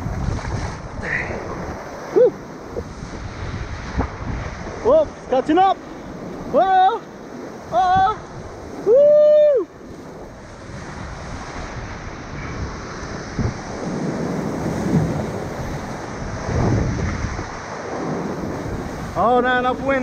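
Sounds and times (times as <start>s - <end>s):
surf and water rushing: 0.0s - 20.0s
wind buffeting microphone: 0.0s - 20.0s.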